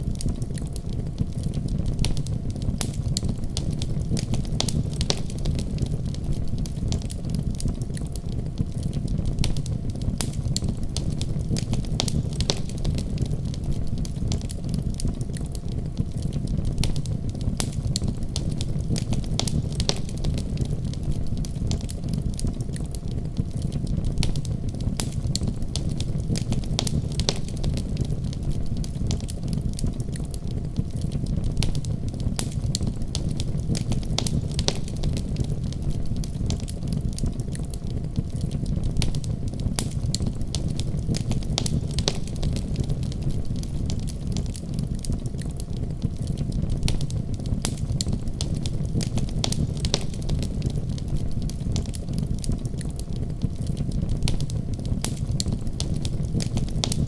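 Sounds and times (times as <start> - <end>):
fire low rumble: 0.0 - 57.0
wood fire pops and ticks: 0.0 - 57.0.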